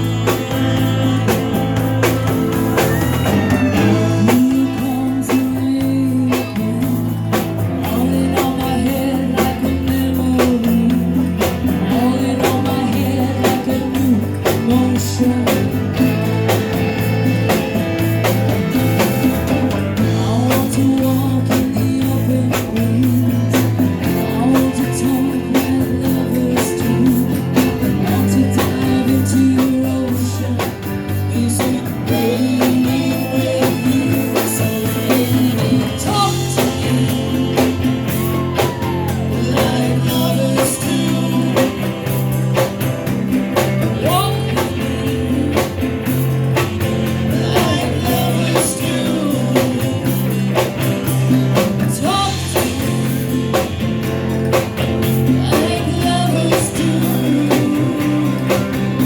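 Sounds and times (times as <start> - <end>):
bass guitar: 0.0 - 59.0
drum kit: 0.0 - 59.0
electric guitar: 0.0 - 59.0
woman singing: 2.8 - 42.7, 43.6 - 53.8, 55.2 - 59.0.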